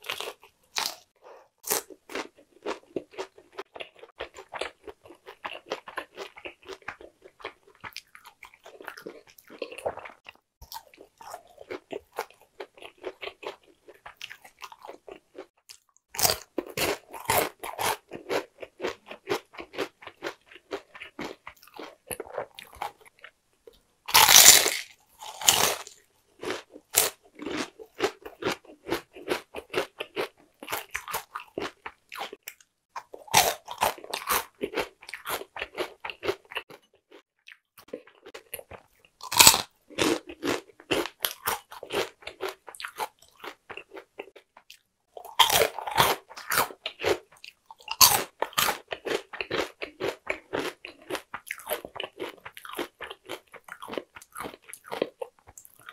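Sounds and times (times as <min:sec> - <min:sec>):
crunchy chewing: 0:00.0 - 0:23.4, 0:24.1 - 0:55.9.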